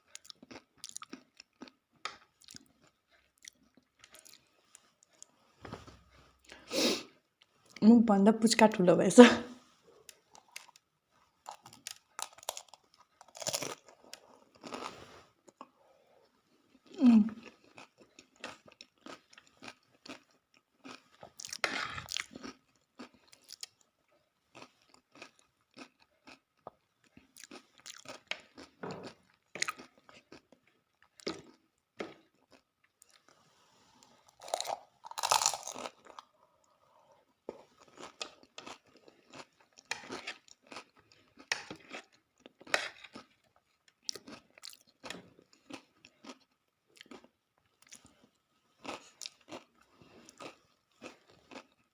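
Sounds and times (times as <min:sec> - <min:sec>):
person chewing crunchy food: 0:00.0 - 0:05.4, 0:10.0 - 0:51.9.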